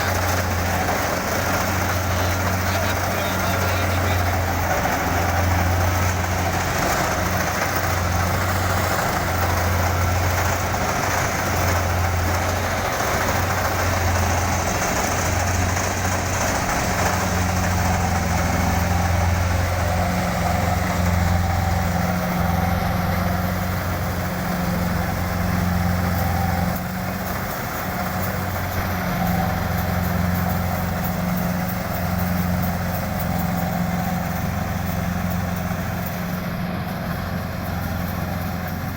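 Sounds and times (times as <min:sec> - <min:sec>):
broad mechanical noise: 0:00.0 - 0:38.9
diesel engine running: 0:00.0 - 0:38.9.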